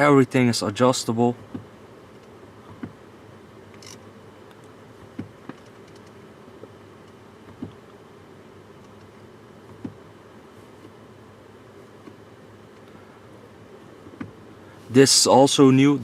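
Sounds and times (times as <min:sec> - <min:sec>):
low cabin hum: 0:00.0 - 0:16.0.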